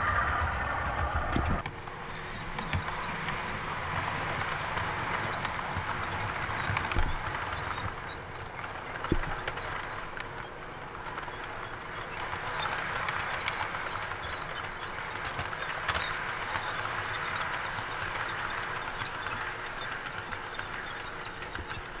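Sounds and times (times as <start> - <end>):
model train motor and wheel rumble: 0.0 - 22.0
wheels clicking on rails: 0.0 - 22.0.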